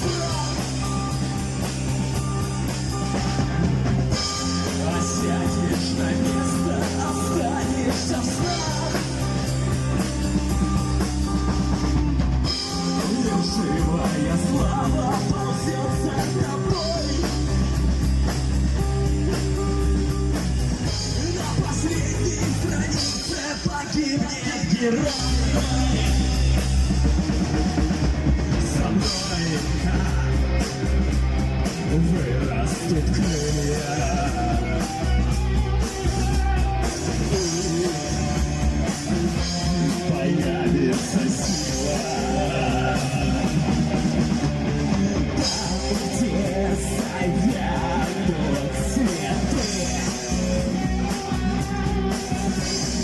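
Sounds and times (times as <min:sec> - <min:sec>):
rock song with vocals: 0:00.0 - 0:53.0.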